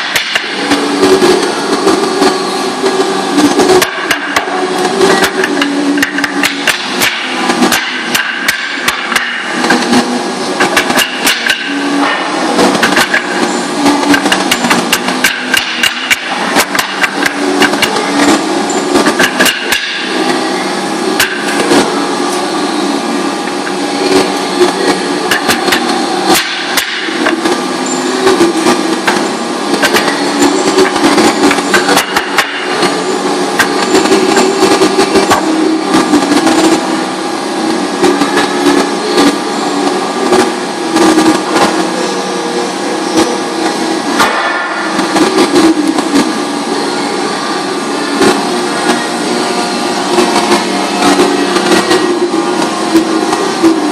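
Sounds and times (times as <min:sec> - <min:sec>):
machine hum: 0:00.0 - 0:53.9.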